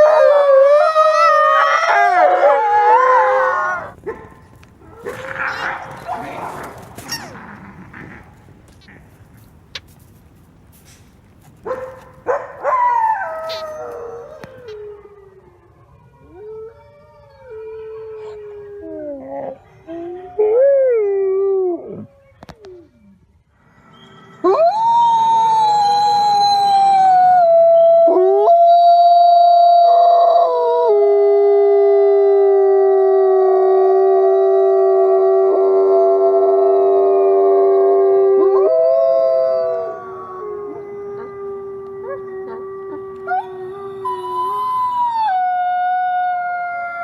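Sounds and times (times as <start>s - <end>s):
wolves howling: 0.0s - 4.1s, 4.8s - 8.4s, 11.7s - 22.9s, 24.4s - 47.0s.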